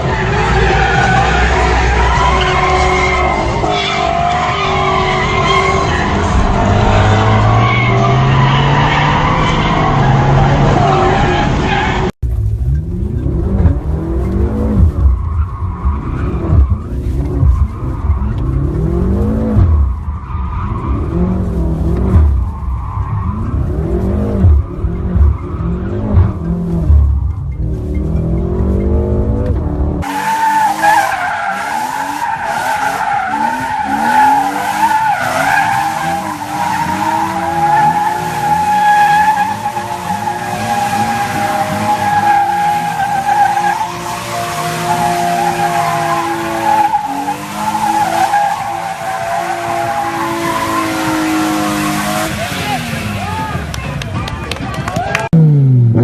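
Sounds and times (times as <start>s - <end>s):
tyres squealing and skidding: 0.0s - 12.2s, 14.2s - 29.2s, 30.0s - 55.3s
car engine revving: 0.0s - 56.0s.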